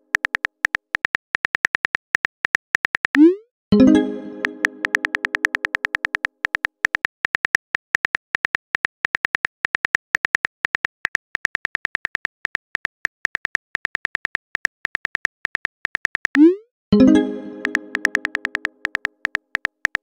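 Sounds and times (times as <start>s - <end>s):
keyboard typing clicks: 0.0s - 20.0s.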